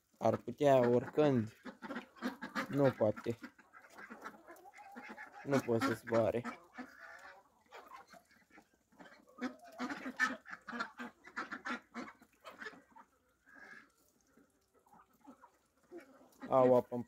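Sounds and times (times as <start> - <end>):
ducks quacking: 0.2 - 17.0.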